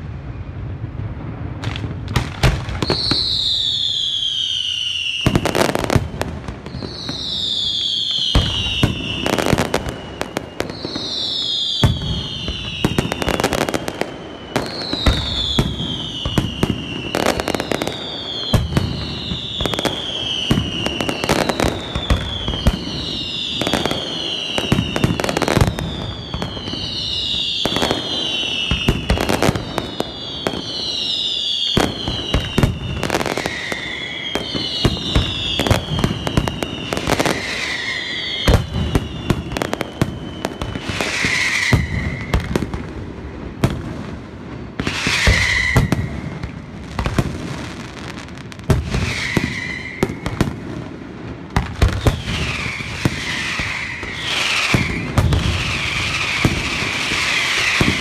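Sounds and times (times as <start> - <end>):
falling firework whistle: 0.0 - 58.0.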